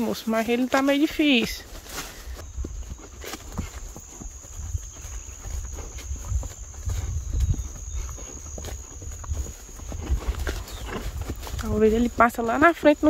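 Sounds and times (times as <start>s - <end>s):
high-pitched insect trill: 0.1s - 13.0s.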